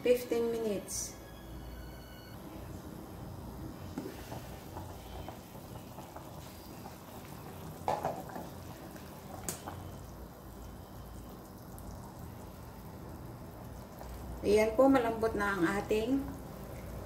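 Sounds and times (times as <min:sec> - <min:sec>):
broth simmering and bubbling: 0:02.3 - 0:17.0.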